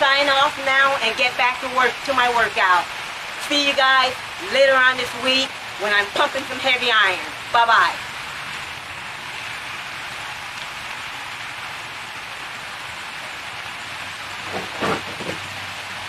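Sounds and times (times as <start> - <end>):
water falling and splashing: 0.0 - 16.0.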